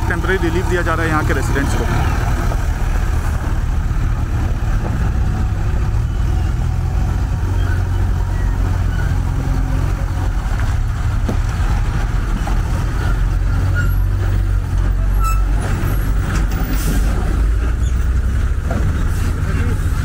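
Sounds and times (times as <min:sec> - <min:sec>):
diesel truck engine passing: 0:00.0 - 0:20.0.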